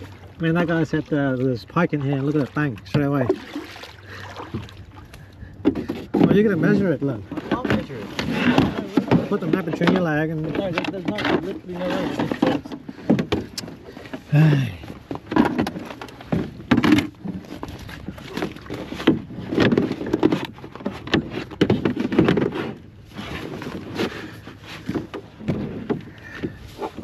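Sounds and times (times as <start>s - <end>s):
knocks inside a canoe: 0.0s - 27.0s.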